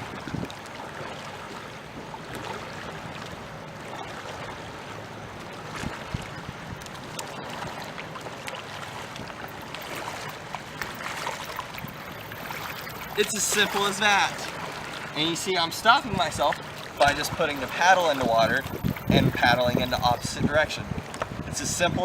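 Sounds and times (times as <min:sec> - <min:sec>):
kayak paddle splashing: 0:00.0 - 0:20.3
moving water wash: 0:00.0 - 0:22.0.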